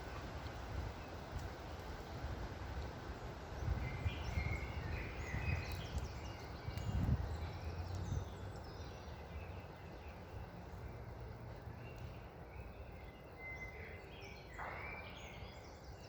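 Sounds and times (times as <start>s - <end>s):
wind rumble: 0.0s - 13.4s
songbirds chirping: 0.0s - 16.0s.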